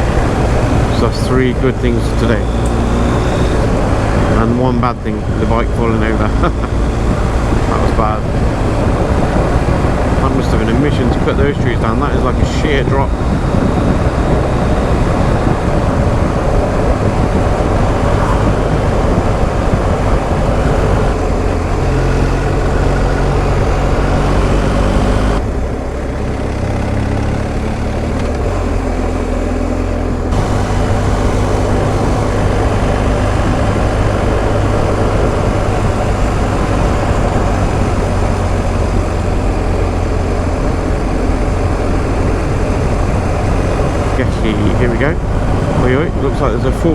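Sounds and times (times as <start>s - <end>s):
motorcycle engine running: 0.0s - 46.9s
riding wind noise: 0.0s - 46.9s.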